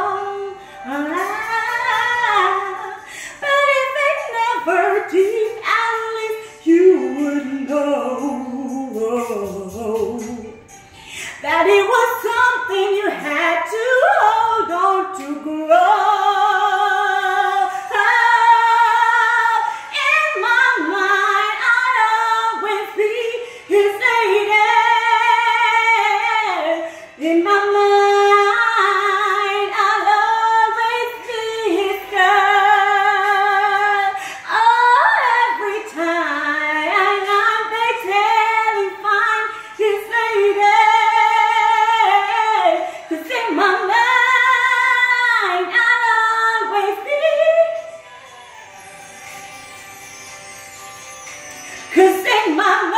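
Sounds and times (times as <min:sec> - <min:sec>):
woman singing a cappella: 0:00.0 - 0:10.7, 0:11.3 - 0:47.9, 0:52.0 - 0:52.9.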